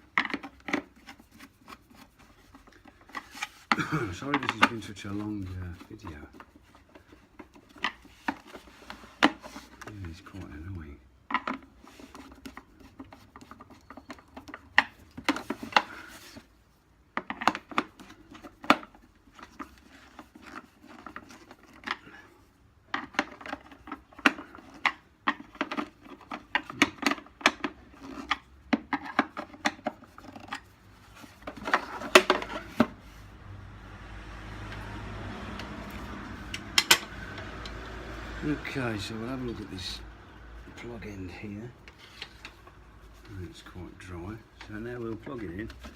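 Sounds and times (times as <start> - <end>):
hard plastic parts clicking: 0.0 - 10.5, 11.2 - 33.0, 35.5 - 40.0, 40.6 - 45.9.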